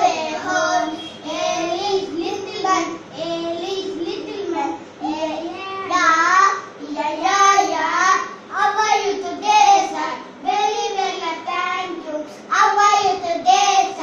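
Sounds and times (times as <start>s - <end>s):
child singing: 0.0s - 14.0s.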